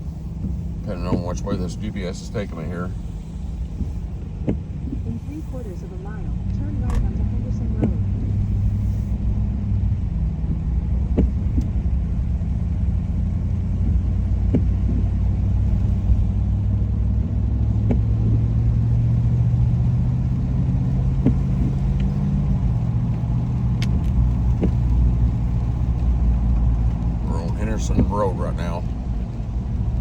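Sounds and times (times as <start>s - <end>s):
car engine and tyre rumble: 0.0s - 30.0s
windshield wiper clicks: 0.2s - 8.8s, 10.3s - 12.1s, 13.7s - 16.3s, 17.6s - 30.0s.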